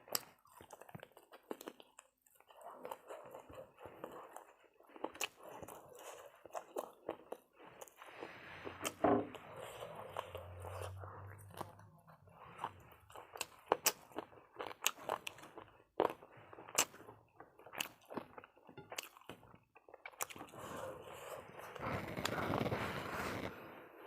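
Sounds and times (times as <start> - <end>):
person chewing crunchy food: 0.0 - 23.5.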